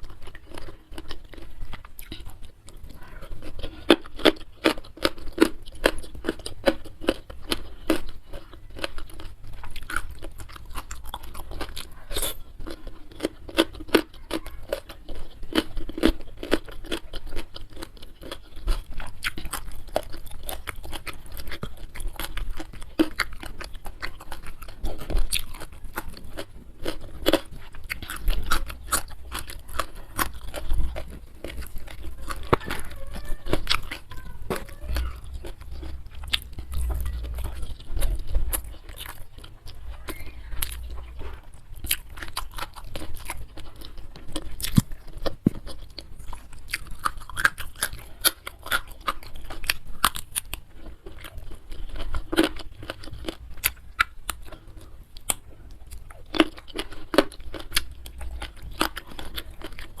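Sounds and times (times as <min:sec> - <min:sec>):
chewing and crunching food: 0:00.0 - 1:00.0.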